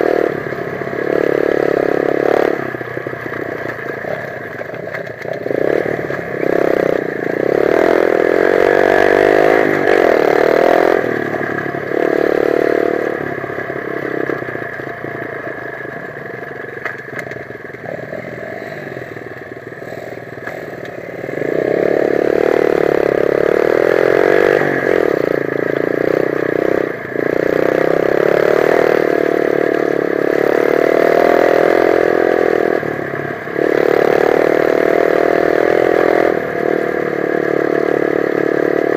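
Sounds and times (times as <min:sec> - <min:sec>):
dirt bike engine revving: 0:00.0 - 0:15.4, 0:17.8 - 0:38.9.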